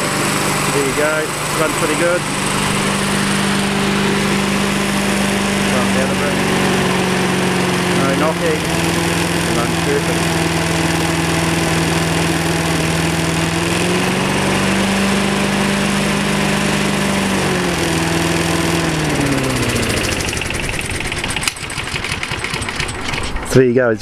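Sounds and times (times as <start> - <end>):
lawn mower engine running: 0.0 - 23.7.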